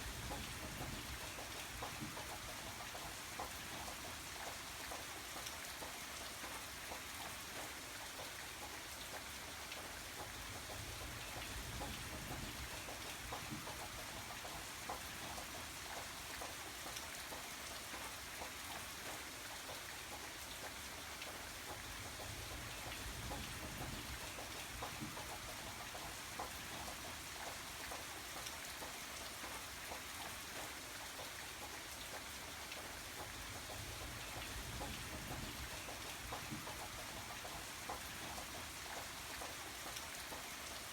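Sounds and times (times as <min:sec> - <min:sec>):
raindrops pattering on a surface: 0:00.0 - 0:40.9
steady rain falling: 0:00.0 - 0:40.9.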